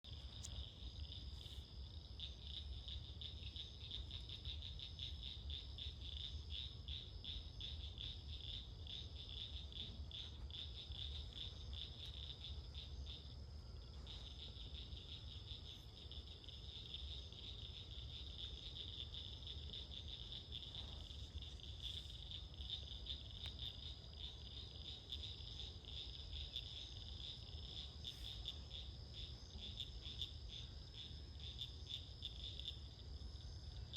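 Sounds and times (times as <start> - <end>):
frogs and insects trilling: 0.0 - 33.9.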